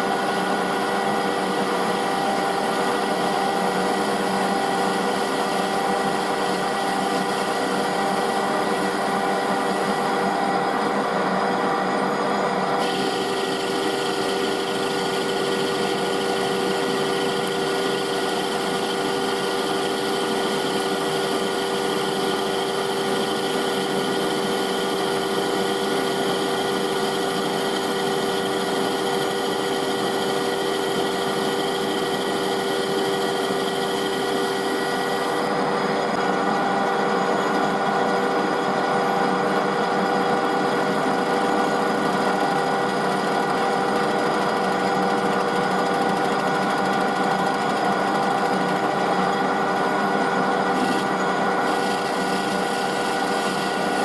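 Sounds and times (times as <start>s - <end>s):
lathe tool cutting metal: 0.0s - 54.0s
metal lathe running: 0.0s - 54.0s.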